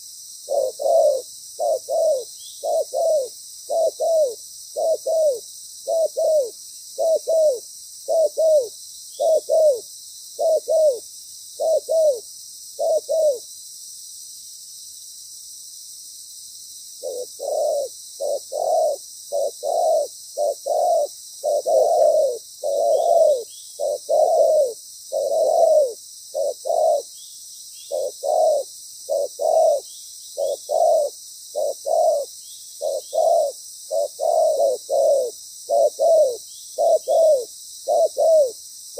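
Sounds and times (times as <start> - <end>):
dove cooing: 0.0 - 11.0, 11.6 - 12.2, 12.8 - 13.4, 17.0 - 27.2, 27.9 - 38.6.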